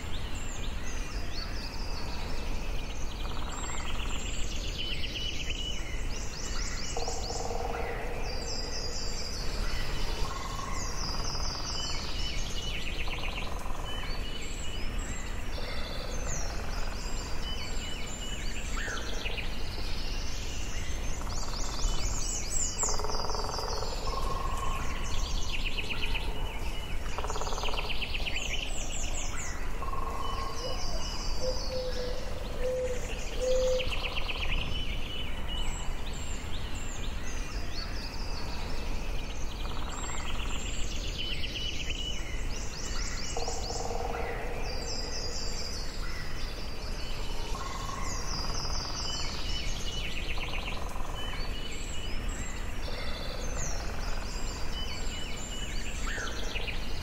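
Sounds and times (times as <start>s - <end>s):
birds singing and calling: 0.0s - 57.0s
low background noise: 0.0s - 57.0s.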